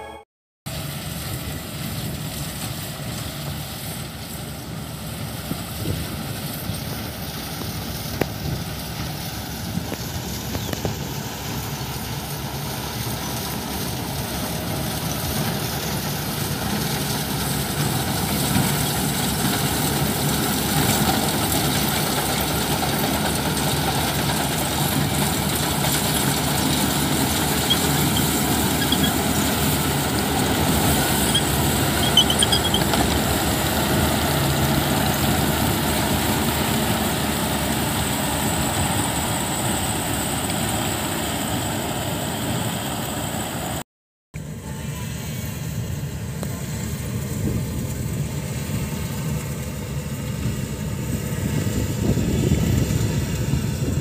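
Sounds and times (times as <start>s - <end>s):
combine harvester engine droning: 0.0s - 43.8s, 44.4s - 54.0s.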